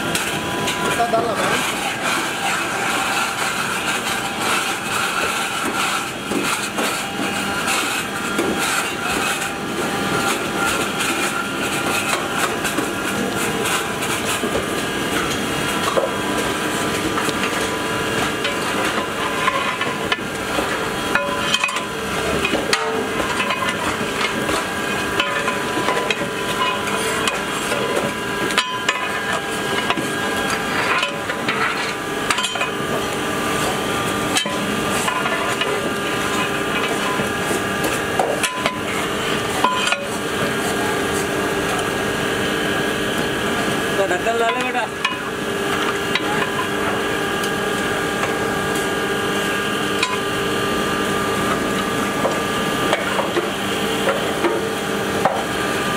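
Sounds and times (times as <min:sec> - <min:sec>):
steady background hum: 0:00.0 - 0:55.9.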